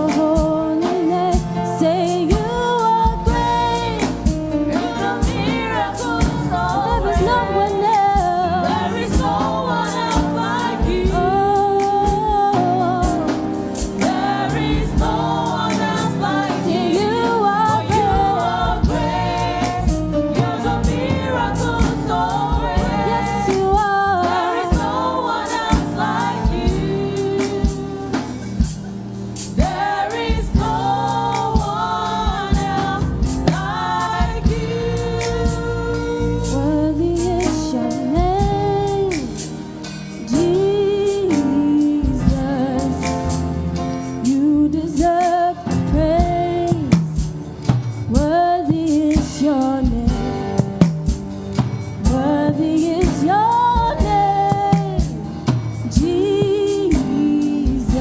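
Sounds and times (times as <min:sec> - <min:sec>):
drums beating: 0:00.0 - 0:39.6, 0:41.3 - 0:43.5, 0:45.0 - 0:58.0
gospel choir singing: 0:00.0 - 0:58.0
band playing: 0:00.1 - 0:48.4.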